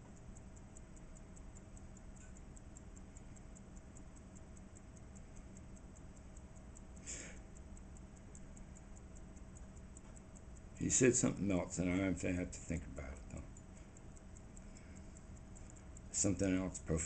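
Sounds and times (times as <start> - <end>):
low steady hum: 0.0 - 17.0
fast high-pitched ticking: 0.2 - 17.0.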